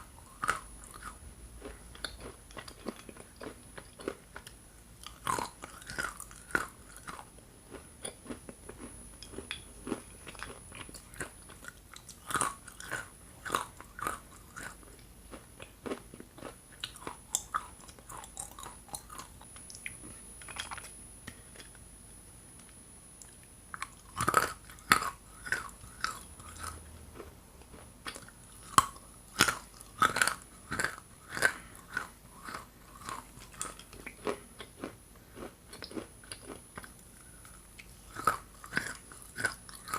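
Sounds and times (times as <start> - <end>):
soft chewing: 0.0 - 21.8, 22.6 - 39.9
clay chunks crunching when bitten: 0.3 - 21.7, 23.8 - 37.5, 38.1 - 39.9.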